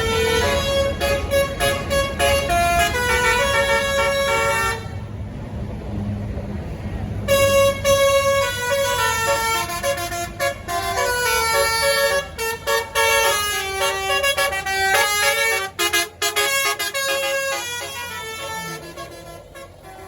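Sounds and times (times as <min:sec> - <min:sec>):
bus horn playing melody: 0:00.0 - 0:05.1, 0:07.3 - 0:20.0
bus engine rumble: 0:00.0 - 0:20.0.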